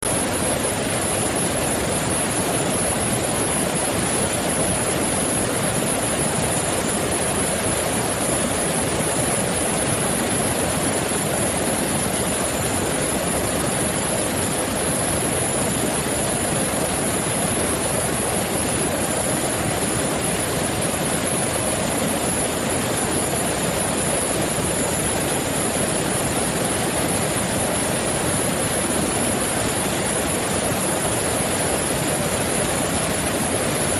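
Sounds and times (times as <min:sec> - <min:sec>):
aircraft engine noise: 0:00.0 - 0:33.9
thin high whine: 0:00.0 - 0:33.9.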